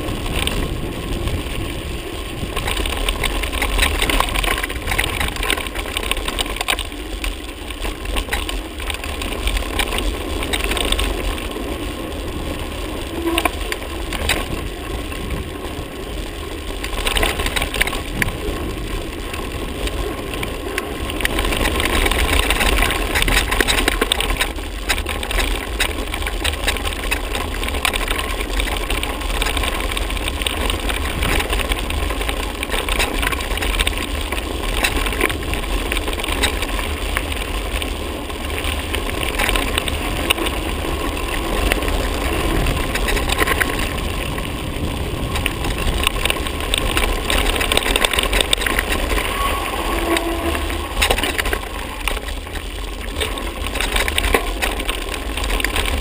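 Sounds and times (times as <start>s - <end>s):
bike rattling and ticking: 0.0s - 56.0s
bike tyres crunching on gravel: 0.0s - 56.0s
steady low rumble: 0.0s - 56.0s.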